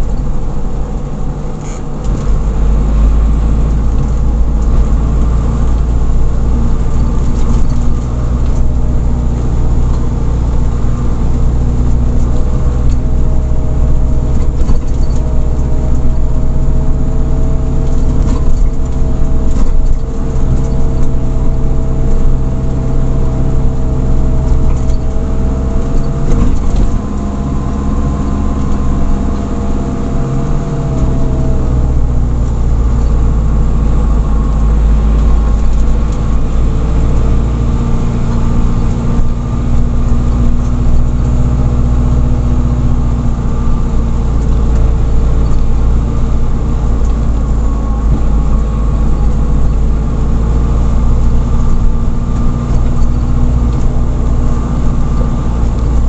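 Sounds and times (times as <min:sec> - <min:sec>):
high whine: 0:00.0 - 0:56.0
road noise: 0:00.0 - 0:56.0
van engine droning: 0:00.0 - 0:56.0.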